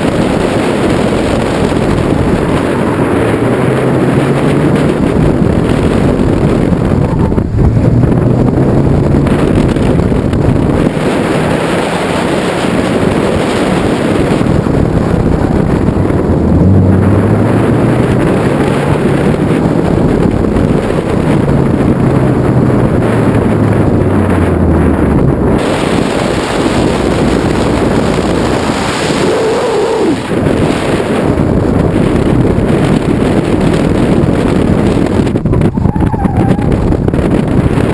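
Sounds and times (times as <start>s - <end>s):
car engine revving: 0.0s - 37.9s
wind buffeting microphone: 0.0s - 37.9s.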